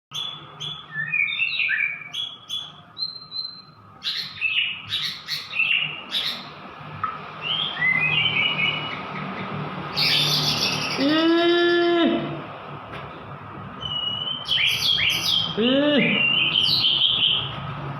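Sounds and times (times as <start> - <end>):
bird singing: 0.1 - 6.6, 7.4 - 12.0, 13.8 - 17.6.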